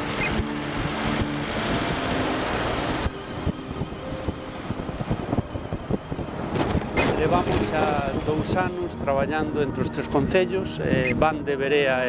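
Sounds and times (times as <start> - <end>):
vehicle engine hum: 0.0 - 11.4
road noise: 0.0 - 12.0.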